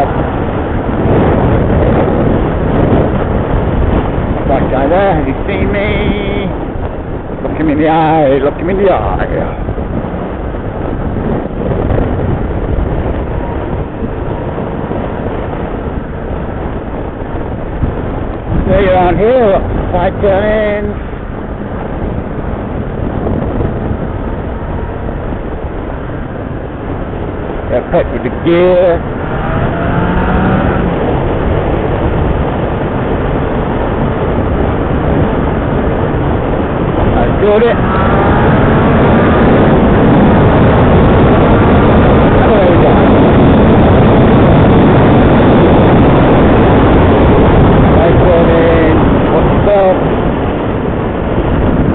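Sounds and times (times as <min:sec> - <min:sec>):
motorcycle engine drone: 0:00.0 - 0:51.9
road noise: 0:00.0 - 0:51.9
wind noise: 0:00.0 - 0:51.9.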